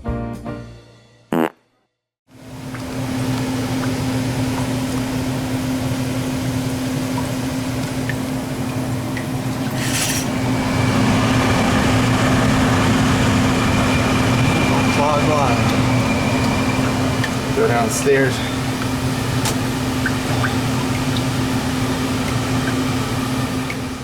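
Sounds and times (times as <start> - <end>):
machine humming: 2.4 - 24.0.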